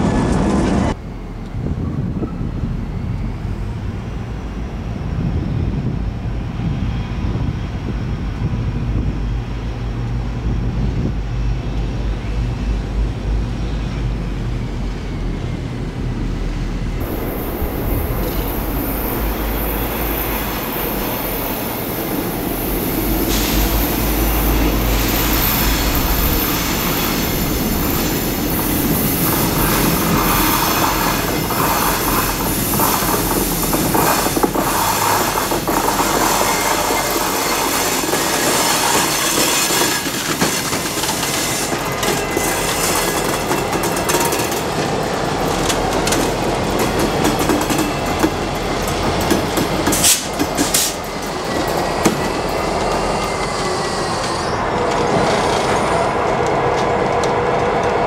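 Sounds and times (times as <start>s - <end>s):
locomotive engine rumble: 0.0s - 58.0s
train wheels on rails: 0.0s - 58.0s.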